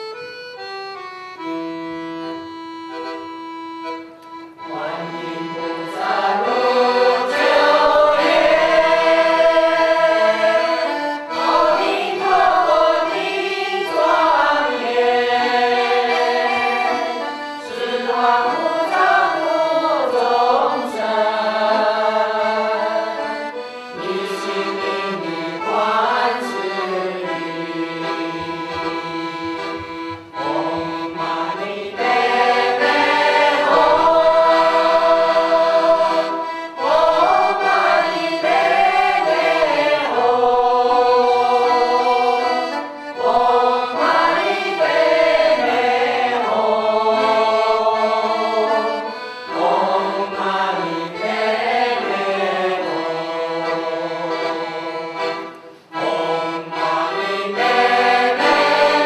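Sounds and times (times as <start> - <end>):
piano accordion: 0.0 - 59.0
mixed choir singing: 4.6 - 59.0.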